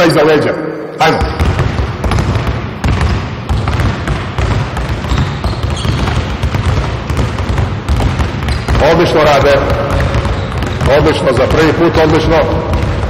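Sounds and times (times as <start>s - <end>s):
basketballs bouncing on wooden floor: 1.0s - 13.0s.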